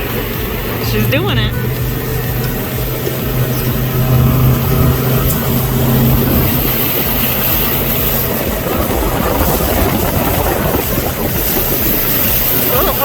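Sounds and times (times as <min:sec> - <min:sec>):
outboard engine humming: 0:00.0 - 0:13.0
rushing water: 0:00.0 - 0:13.0
wind: 0:00.0 - 0:13.0.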